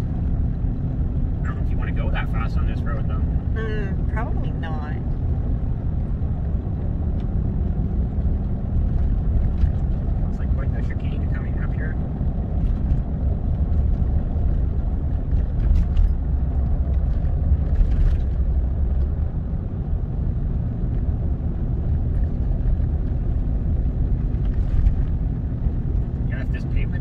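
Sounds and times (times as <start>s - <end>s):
pickup truck engine and tyre rumble: 0.0s - 27.0s.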